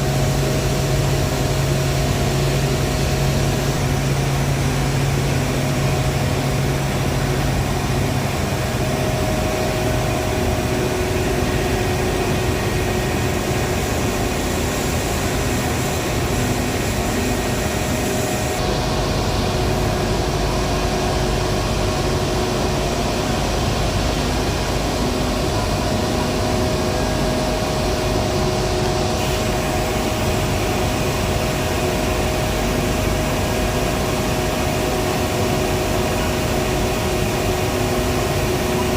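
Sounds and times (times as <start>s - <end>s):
industrial machinery roar: 0.0s - 38.9s.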